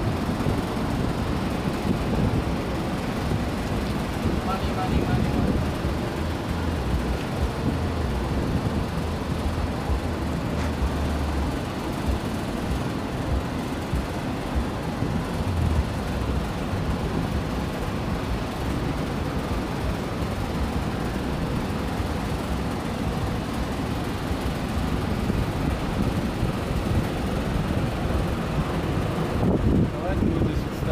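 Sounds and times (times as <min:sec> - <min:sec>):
wind blowing over microphone: 0:00.0 - 0:30.9.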